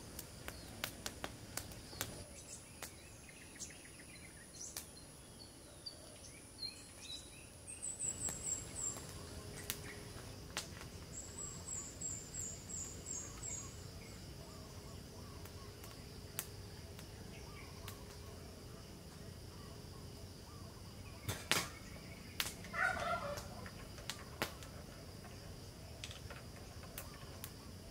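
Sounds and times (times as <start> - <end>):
insect buzz: 0.0 - 27.9
birds chirping: 1.6 - 27.9.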